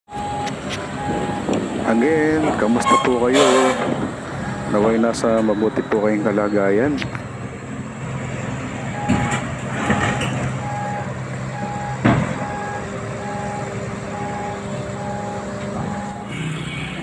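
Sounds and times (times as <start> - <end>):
backup alarm beeping: 0.1 - 3.3, 4.4 - 7.3, 8.9 - 16.4
heavy diesel machinery running: 0.1 - 17.0.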